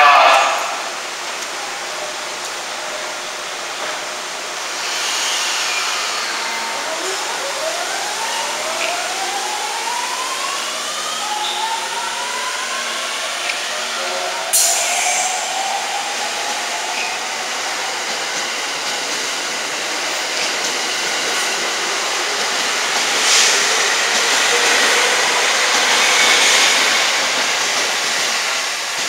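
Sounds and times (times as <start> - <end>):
electric train inverter whine: 0.0 - 29.0.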